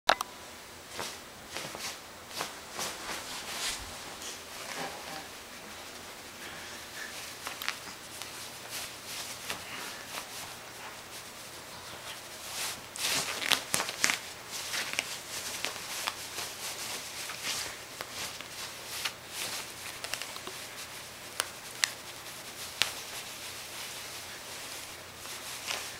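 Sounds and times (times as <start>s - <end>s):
bedsheet rustling and scraping: 0.8s - 25.9s.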